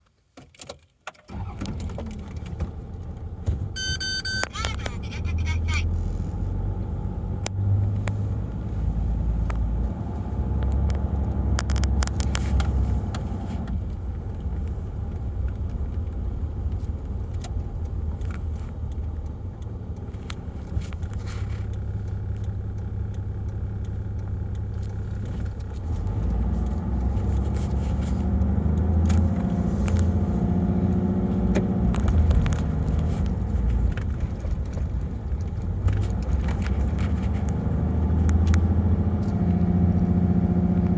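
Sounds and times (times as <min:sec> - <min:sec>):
diesel engine droning: 0:01.3 - 0:40.9.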